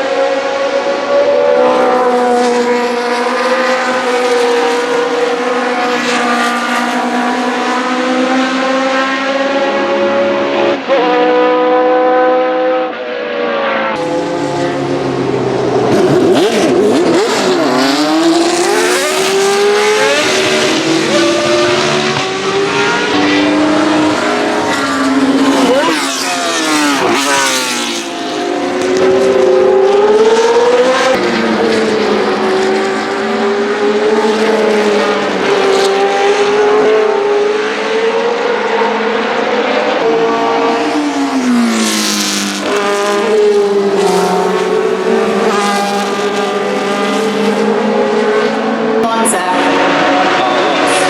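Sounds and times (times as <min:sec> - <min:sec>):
racing car engine at high revs: 0:00.0 - 0:51.0.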